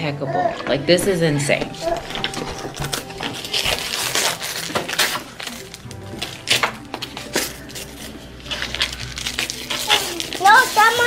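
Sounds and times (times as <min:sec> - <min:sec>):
background music with held tones: 0:00.0 - 0:11.0
gift-wrap paper tearing: 0:01.6 - 0:11.0.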